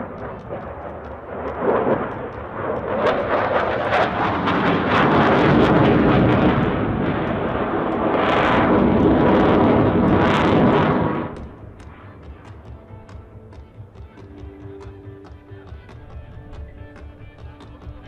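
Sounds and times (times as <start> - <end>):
jet fighter flying overhead: 0.0 - 18.0.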